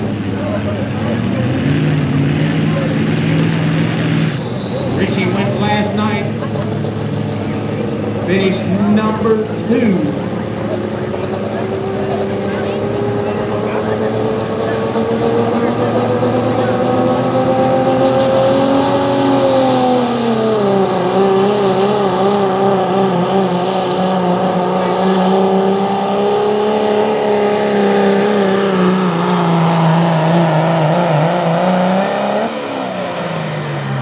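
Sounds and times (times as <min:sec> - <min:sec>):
diesel truck engine at full throttle: 0:00.0 - 0:34.0.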